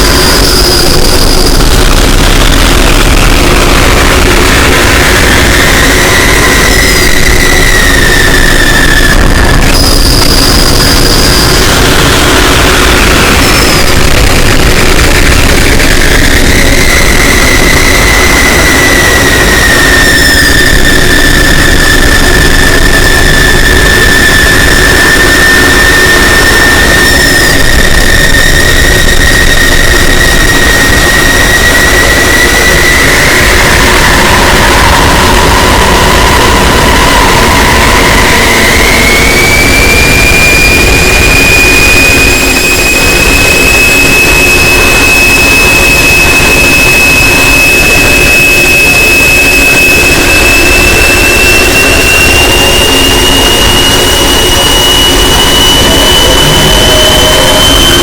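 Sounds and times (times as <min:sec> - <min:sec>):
distorted high-pitched alarm tone: 0:00.0 - 0:58.0.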